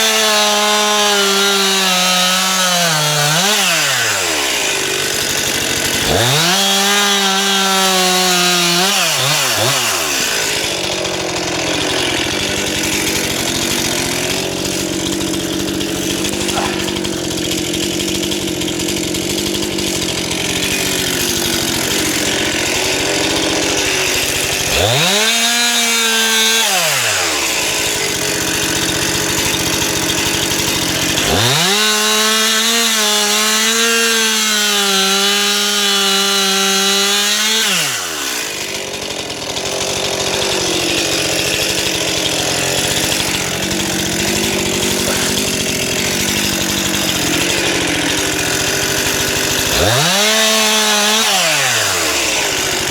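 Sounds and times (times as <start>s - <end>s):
chainsaw idling and revving: 0.0s - 52.9s.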